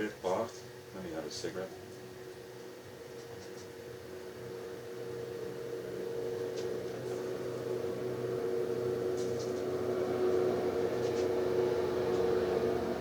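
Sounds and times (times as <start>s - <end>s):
appliance electrical hum: 0.0s - 13.0s.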